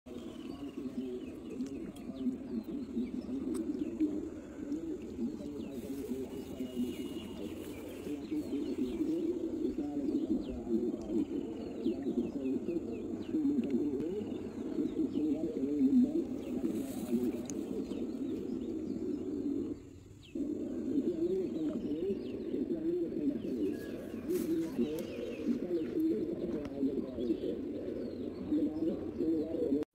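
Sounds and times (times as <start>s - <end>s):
small birds chirping faintly: 0.1s - 29.8s
doves cooing: 0.1s - 29.9s.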